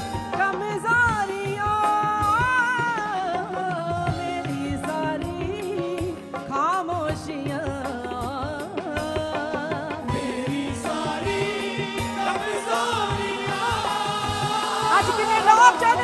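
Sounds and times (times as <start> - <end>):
worship song with drum beat: 0.0 - 16.0.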